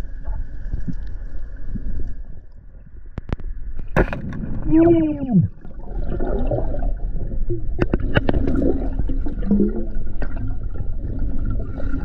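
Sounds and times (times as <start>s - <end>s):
underwater rumble and gurgling: 0.0s - 12.0s.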